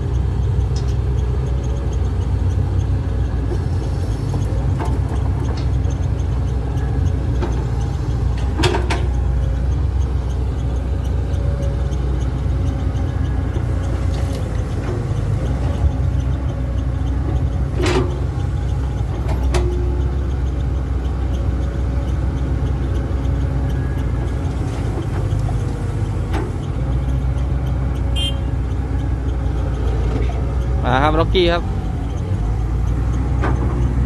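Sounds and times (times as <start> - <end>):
diesel machinery rumbling: 0.0 - 34.0.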